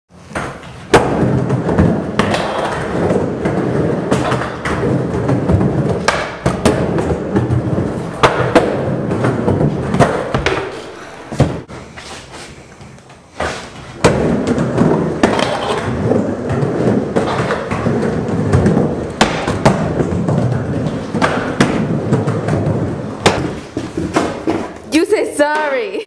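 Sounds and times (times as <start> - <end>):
skateboard wheels rolling on wood: 0.2 - 25.0.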